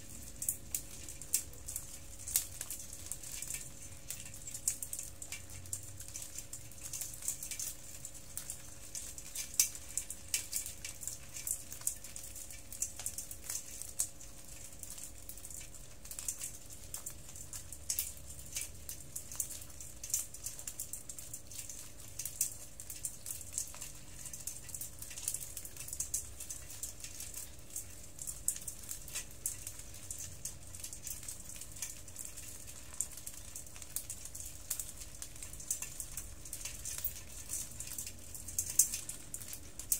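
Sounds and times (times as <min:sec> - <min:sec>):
crab shells clicking and rattling: 0:00.2 - 0:39.9.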